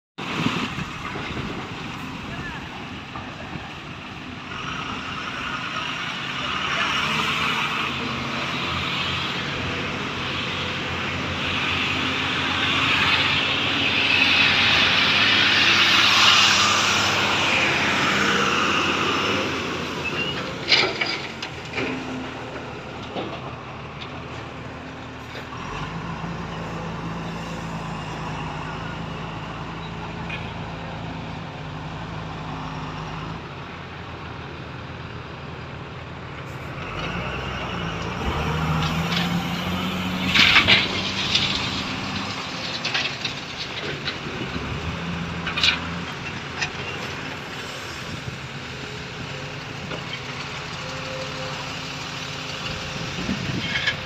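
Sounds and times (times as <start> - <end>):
excavator diesel engine: 0.2 - 54.0
truck engines running: 0.2 - 54.0.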